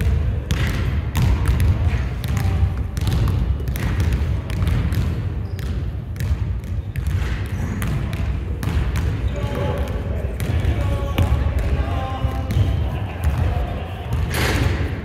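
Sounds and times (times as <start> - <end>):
basketball bouncing on court: 0.0 - 15.0.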